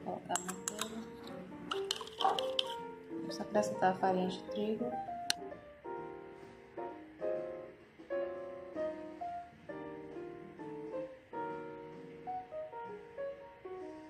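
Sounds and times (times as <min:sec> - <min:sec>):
instrumental music: 0:00.3 - 0:14.0.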